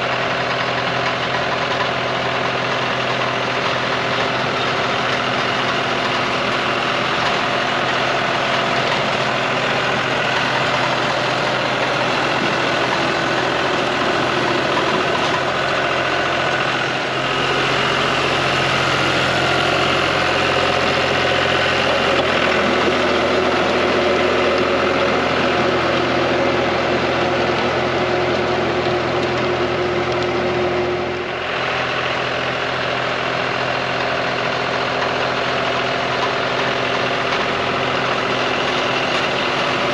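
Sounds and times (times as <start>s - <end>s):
diesel tractor engine under load: 0.0s - 39.9s
rotary tiller working soil: 0.0s - 39.9s.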